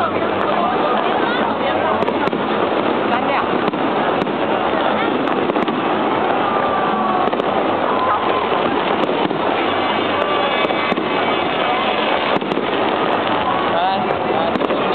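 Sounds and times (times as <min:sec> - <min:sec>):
crowd voices: 0:00.0 - 0:14.9
fireworks crackling and banging: 0:00.0 - 0:14.9.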